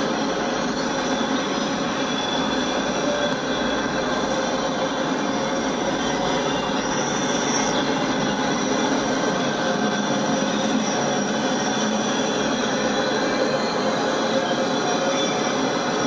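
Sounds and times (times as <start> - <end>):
high-pitched wheel squeal: 0.0 - 16.0
steel wheels rolling on rail: 0.0 - 16.0.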